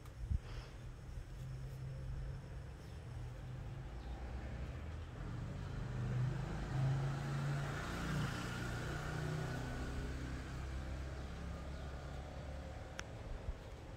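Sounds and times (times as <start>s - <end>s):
low engine hum: 0.0s - 13.9s.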